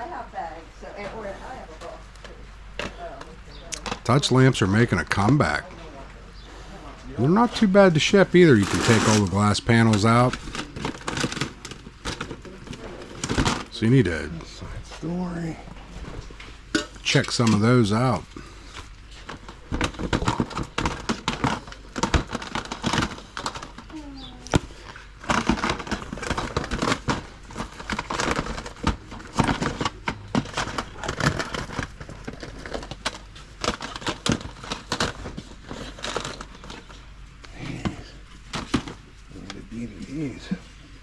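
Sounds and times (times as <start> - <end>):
items crinkling and rustling: 0.0 - 41.0.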